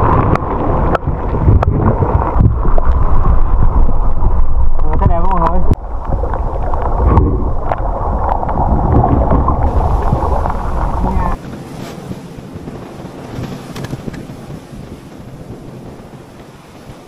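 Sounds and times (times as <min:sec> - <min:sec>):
waves breaking on rocks: 0:00.0 - 0:17.0
wind buffeting microphone: 0:00.0 - 0:17.0.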